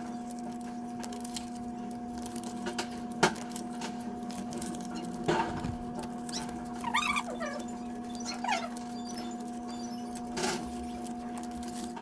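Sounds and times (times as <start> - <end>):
banknotes crinkling: 0.0 - 12.0
electrical hum: 0.0 - 12.0.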